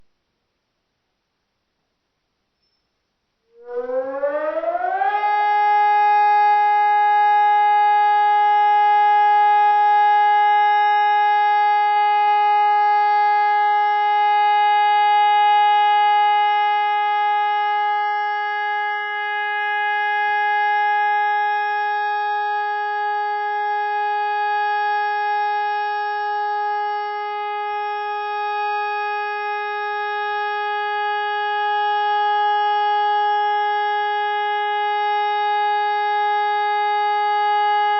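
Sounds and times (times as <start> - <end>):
electronic siren steady tone: 3.4 - 37.9.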